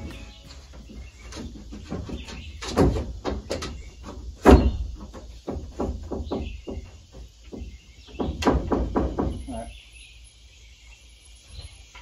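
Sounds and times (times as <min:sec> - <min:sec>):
knocks and thuds on wooden roof: 0:00.0 - 0:09.7.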